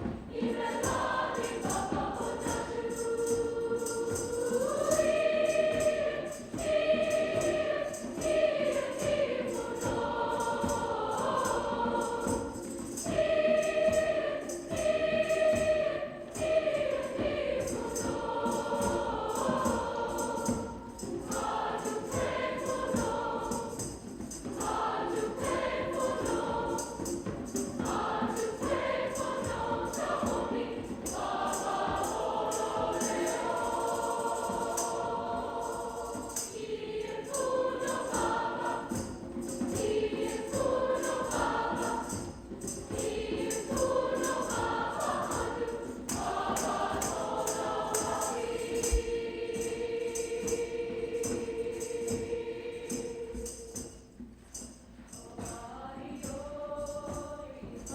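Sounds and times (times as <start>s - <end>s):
choir singing held chords: 0.0s - 57.9s.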